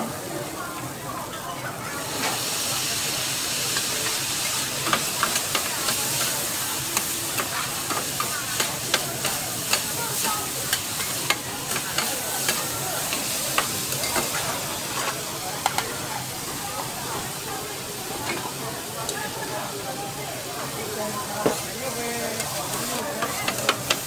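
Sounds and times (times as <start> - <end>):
noodles sizzling on griddle: 0.1 - 24.0.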